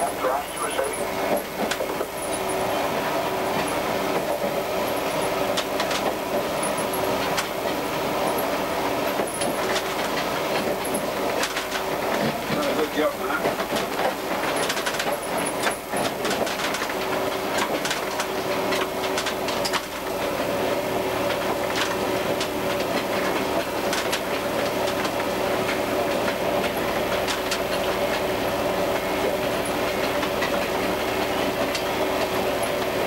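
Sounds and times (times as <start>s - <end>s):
diesel engine drone with whine: 0.0s - 33.0s
wheels clicking over rail joints: 3.6s - 20.4s, 21.1s - 33.0s.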